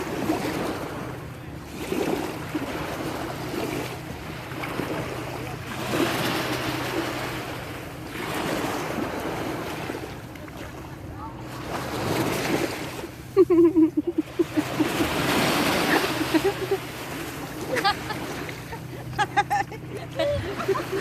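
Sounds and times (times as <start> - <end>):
steady low hum: 0.0 - 21.0
waves washing on open water: 0.0 - 21.0.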